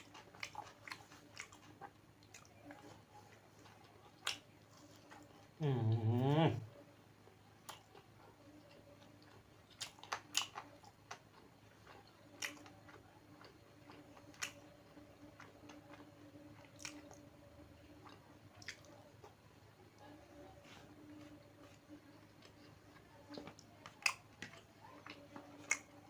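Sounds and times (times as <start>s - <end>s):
person chewing food: 0.0s - 6.6s, 7.6s - 19.4s, 20.7s - 26.0s
faint steady hum: 0.0s - 26.0s.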